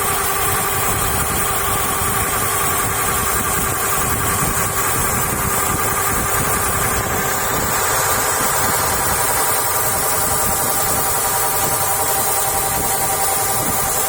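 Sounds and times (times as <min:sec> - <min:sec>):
engine rumbling: 0:00.0 - 0:14.0
gearbox whine: 0:00.0 - 0:14.0.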